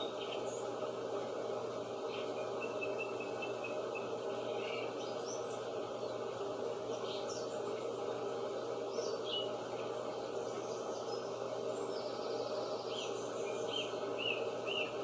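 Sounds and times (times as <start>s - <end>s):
birds chirping: 0.0s - 1.0s, 1.7s - 15.0s
steady background noise: 0.0s - 15.0s.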